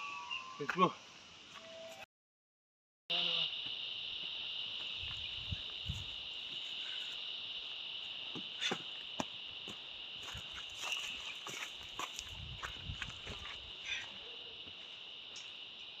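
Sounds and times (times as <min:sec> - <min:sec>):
insect chorus: 0:00.0 - 0:02.0, 0:03.1 - 0:16.0.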